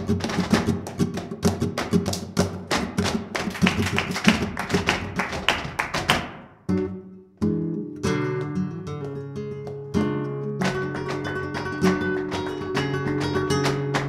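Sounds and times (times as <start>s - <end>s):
flamenco guitar playing: 0.0s - 14.0s.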